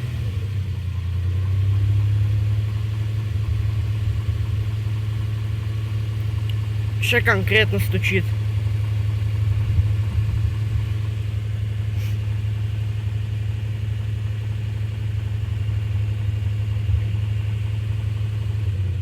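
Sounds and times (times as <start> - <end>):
car engine running: 0.0 - 19.0
engine ticking knock: 1.6 - 18.7.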